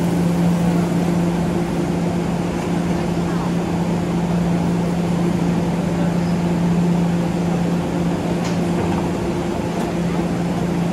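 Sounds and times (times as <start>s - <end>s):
electric train equipment humming: 0.0s - 10.9s.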